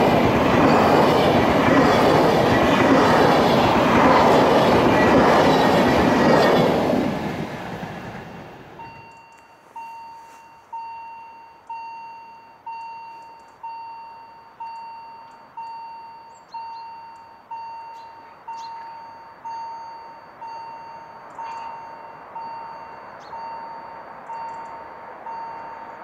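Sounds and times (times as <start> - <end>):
level crossing warning bell: 0.0 - 7.3, 8.8 - 26.0
passenger train passing: 0.0 - 10.9, 13.7 - 26.0.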